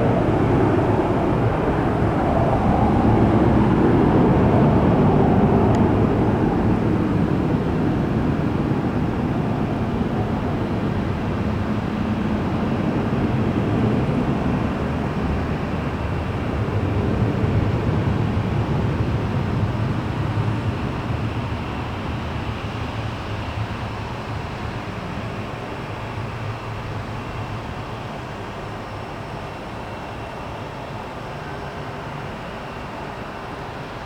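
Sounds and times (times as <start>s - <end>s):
jet engines rumbling at takeoff: 0.0s - 34.0s.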